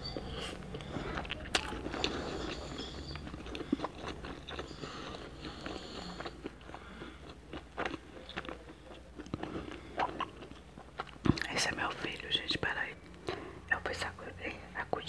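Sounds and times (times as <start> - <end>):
person chewing food: 0.0 - 12.2.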